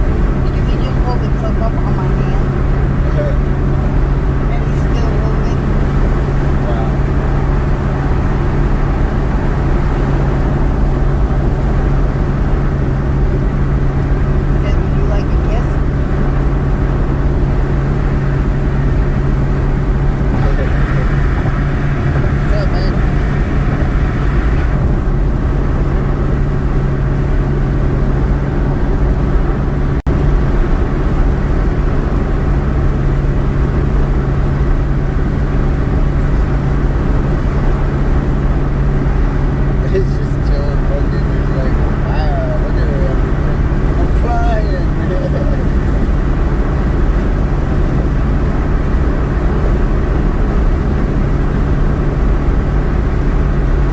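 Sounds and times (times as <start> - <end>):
car road and engine noise: 0.0 - 53.9.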